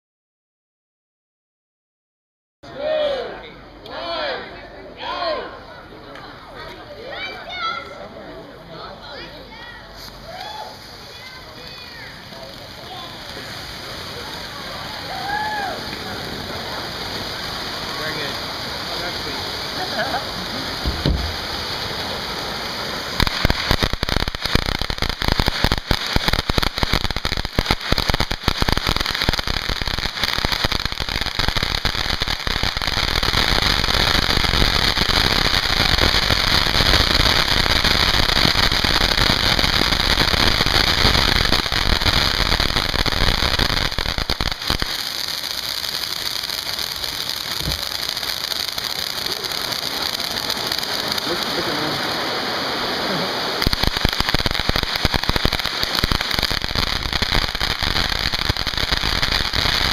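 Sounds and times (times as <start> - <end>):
fireworks crackling: 5.6 - 59.9
fireworks hissing: 6.2 - 59.9.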